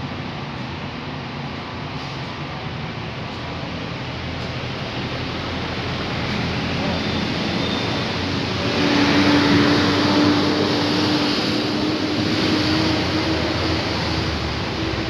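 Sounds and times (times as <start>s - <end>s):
loud outdoor rushing noise: 0.0s - 15.0s
vehicle engine humming: 0.0s - 15.0s.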